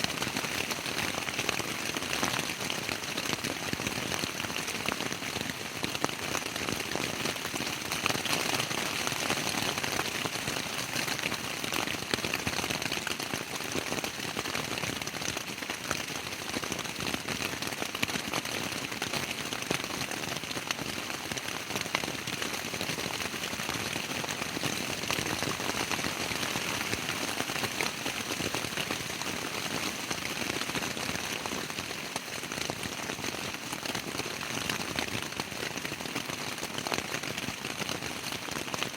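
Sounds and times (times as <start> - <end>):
rain on tent fabric: 0.0 - 38.9.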